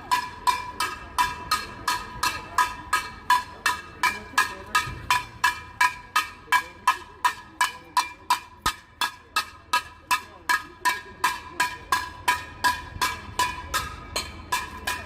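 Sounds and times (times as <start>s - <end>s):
ringing metallic strikes: 0.0s - 15.0s.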